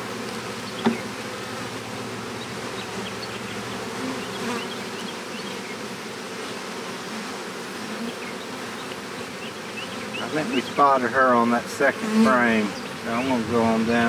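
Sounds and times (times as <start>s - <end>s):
honeybees humming: 0.0s - 14.0s.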